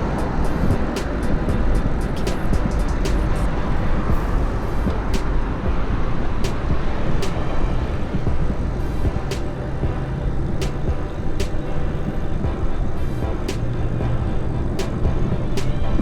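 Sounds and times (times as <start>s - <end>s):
wind and rolling rumble: 0.0s - 16.0s.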